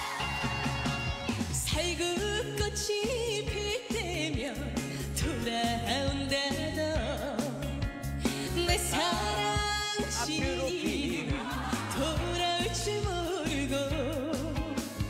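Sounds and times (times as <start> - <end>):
band backing track with bass: 0.0 - 15.0
woman singing: 1.5 - 15.0.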